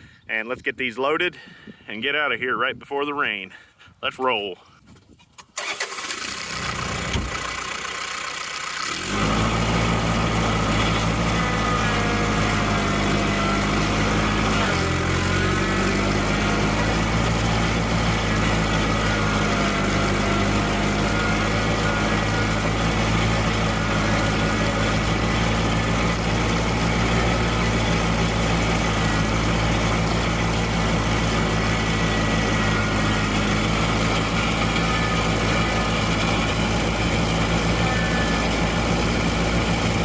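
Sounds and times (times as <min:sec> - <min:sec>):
tractor diesel engine humming: 0:05.4 - 0:40.0.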